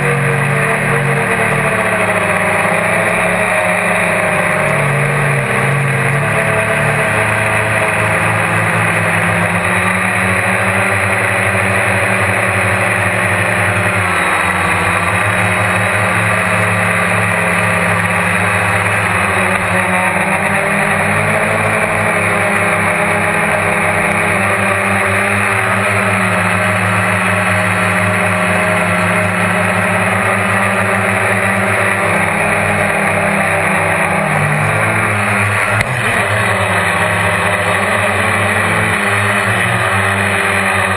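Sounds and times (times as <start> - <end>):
quadcopter motors and propellers buzzing: 0.0 - 40.9.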